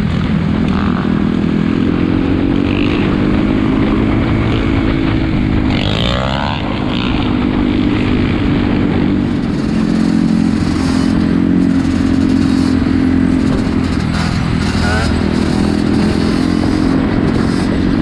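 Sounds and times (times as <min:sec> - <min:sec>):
atv engines revving: 0:00.0 - 0:18.0.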